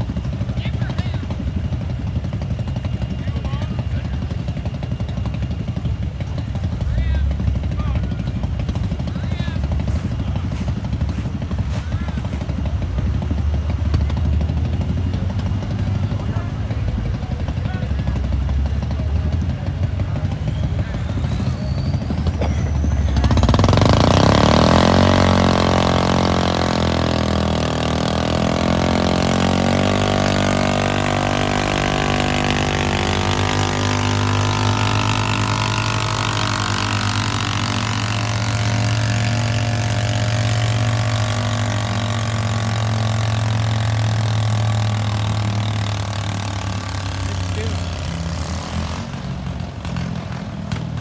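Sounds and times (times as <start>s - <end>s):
tractor engine under heavy load: 0.0s - 51.0s.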